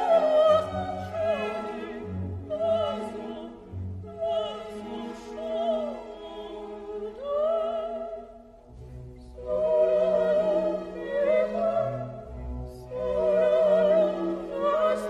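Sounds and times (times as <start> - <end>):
orchestral accompaniment: 0.0 - 15.0.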